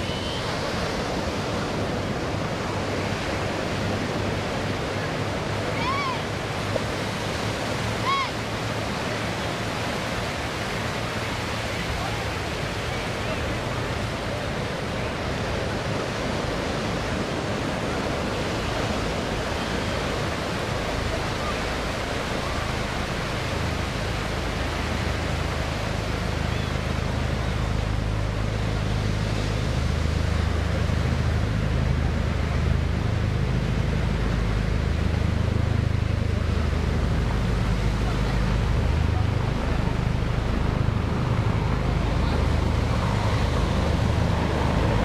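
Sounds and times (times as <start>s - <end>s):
distant helicopter rotors rumbling: 0.0s - 45.0s
steady rushing noise: 0.0s - 45.0s.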